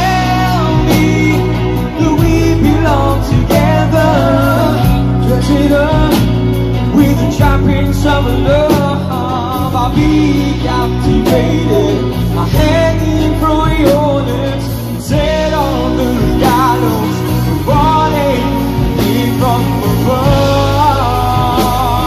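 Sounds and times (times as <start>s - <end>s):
drums: 0.0s - 22.0s
electric guitar: 0.0s - 22.0s
low bass line: 0.0s - 22.0s
man singing: 0.0s - 22.0s.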